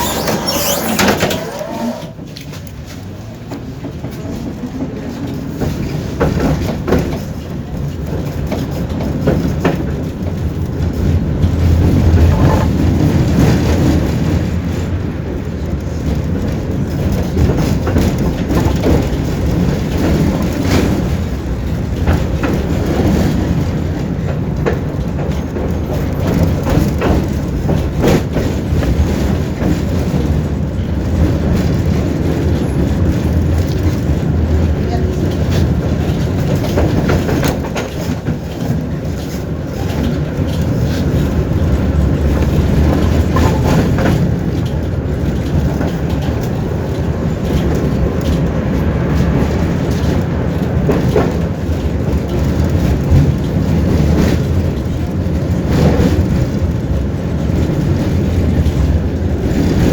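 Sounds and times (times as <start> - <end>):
tram motors and wheels rumbling: 0.0 - 59.9
wheels clacking over rail joints: 0.0 - 59.9.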